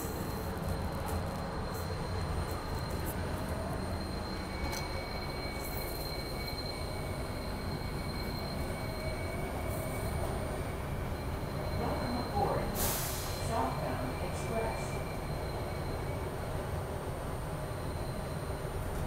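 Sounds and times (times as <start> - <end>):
subway car rumble: 0.0 - 19.0.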